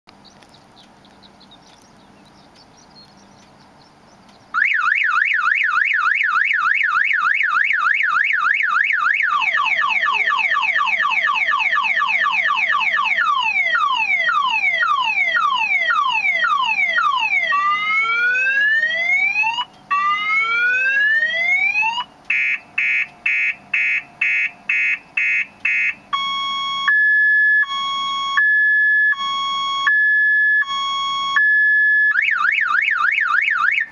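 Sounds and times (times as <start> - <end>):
car alarm siren: 4.5 - 33.9.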